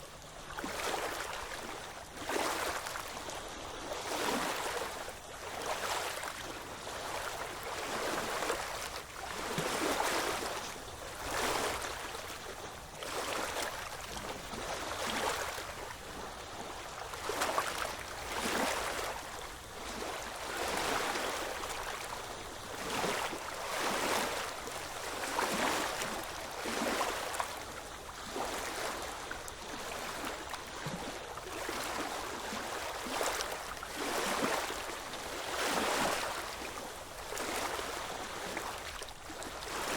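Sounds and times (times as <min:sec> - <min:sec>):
ocean waves lapping at shore: 0:00.0 - 0:39.9.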